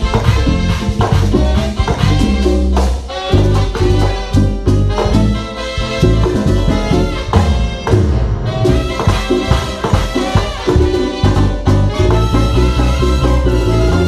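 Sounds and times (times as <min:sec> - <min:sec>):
bass: 0:00.0 - 0:14.0
brass horns: 0:00.0 - 0:14.0
steady drum beat: 0:00.0 - 0:14.0.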